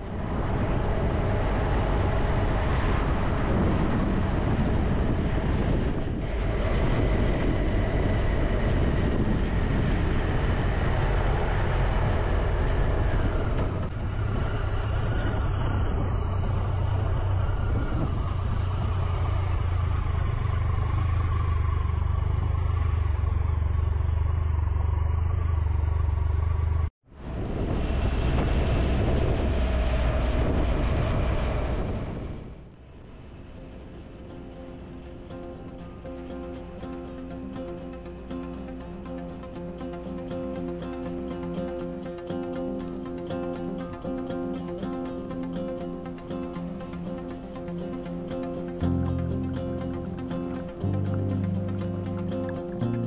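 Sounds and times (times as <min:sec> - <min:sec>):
wind and road noise: 0:00.0 - 0:53.0.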